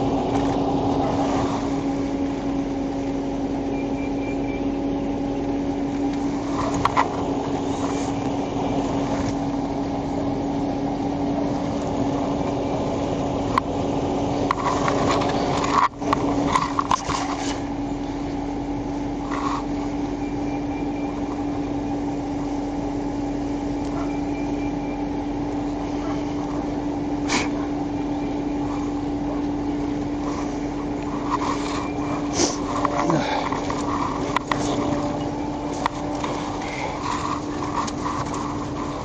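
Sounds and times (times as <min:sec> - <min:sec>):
vehicle running hum: 0:00.0 - 0:39.0.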